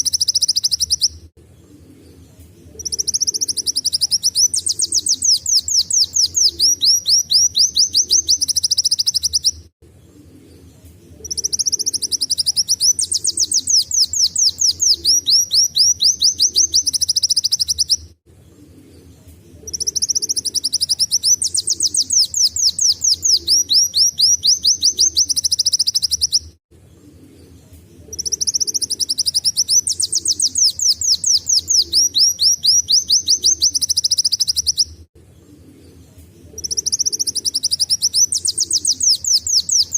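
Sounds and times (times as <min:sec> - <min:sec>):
bird singing rapid high trills: 0:00.0 - 0:01.3, 0:02.8 - 0:09.7, 0:11.2 - 0:18.1, 0:19.6 - 0:26.6, 0:28.1 - 0:35.0, 0:36.5 - 0:39.9.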